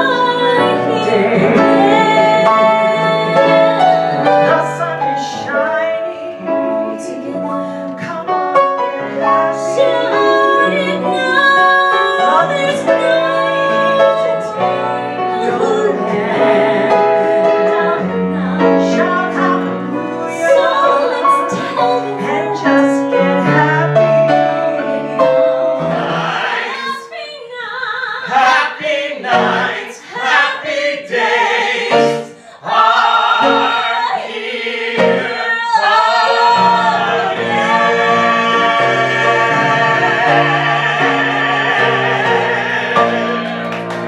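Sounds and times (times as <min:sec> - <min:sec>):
grand piano accompaniment: 0:00.0 - 0:27.0, 0:28.6 - 0:44.0
vocal trio singing in harmony: 0:00.0 - 0:44.0.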